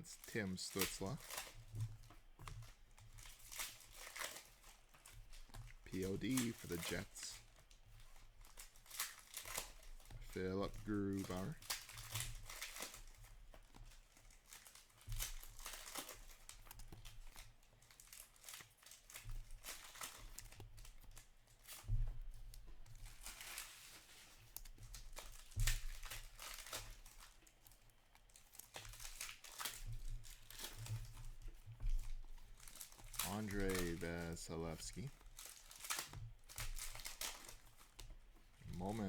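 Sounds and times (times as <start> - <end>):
cards being handled: 0.0 - 39.0
foil wrappers crinkling and tearing: 0.0 - 39.0.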